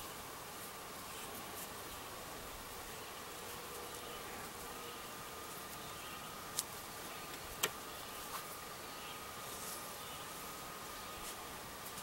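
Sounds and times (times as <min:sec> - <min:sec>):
faint buzzing hum: 0:00.0 - 0:12.0.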